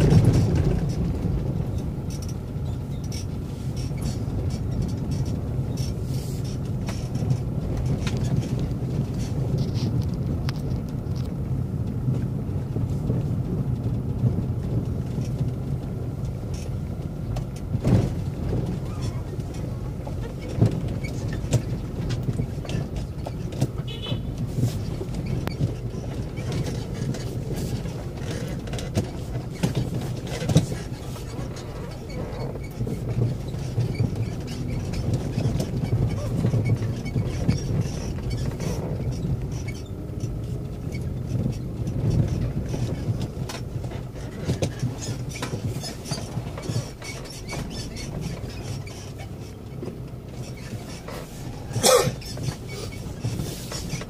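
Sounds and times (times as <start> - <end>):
engine drone inside vehicle: 0.0 - 54.0
knocks and rattles on rough road: 0.0 - 54.0.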